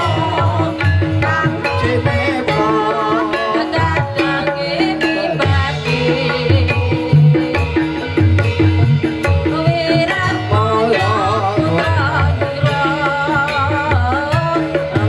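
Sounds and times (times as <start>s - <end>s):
pitched metal percussion pattern: 0.0s - 15.0s.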